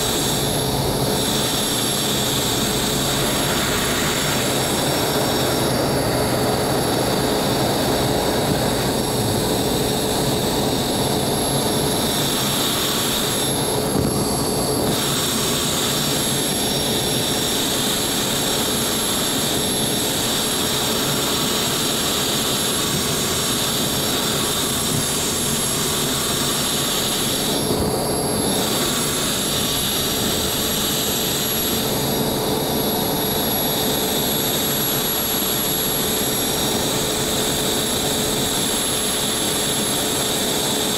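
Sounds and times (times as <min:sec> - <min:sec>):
turbojet engine whine: 0:00.0 - 0:40.9.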